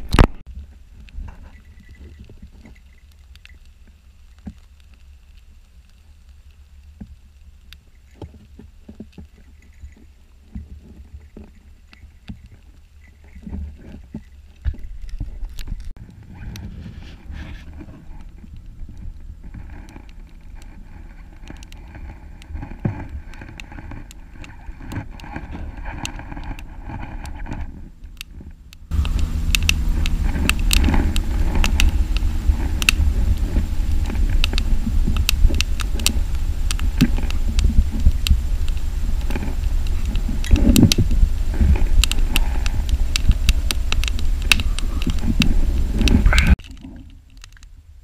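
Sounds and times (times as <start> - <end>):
campfire crackling and popping: 0.0 - 48.0
wind rumbling on microphone: 0.0 - 48.0.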